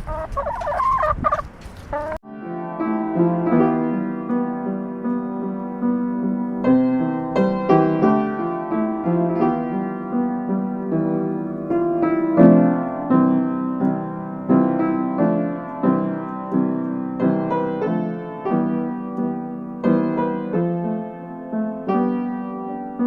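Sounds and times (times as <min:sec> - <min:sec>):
gentle piano melody: 0:02.2 - 0:23.0.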